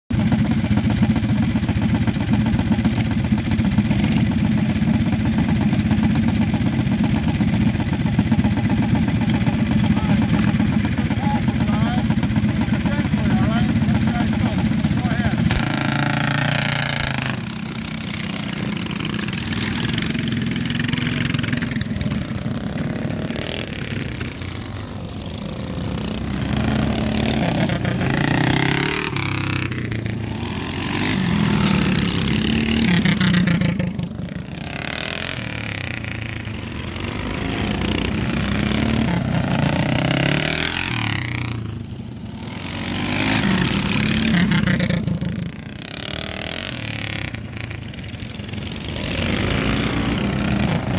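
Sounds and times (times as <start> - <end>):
minibike engines revving: 0.1 - 50.9.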